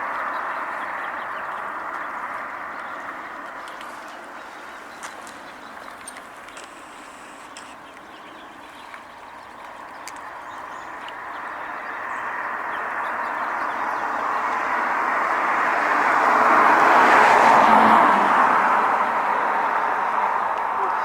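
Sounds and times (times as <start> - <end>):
vehicle tyre and road noise: 0.0 - 21.0.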